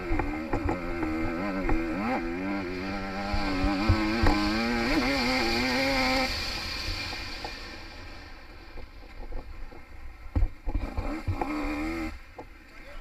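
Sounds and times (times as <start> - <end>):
dirt bike engine revving: 0.0 - 9.3, 10.4 - 12.5.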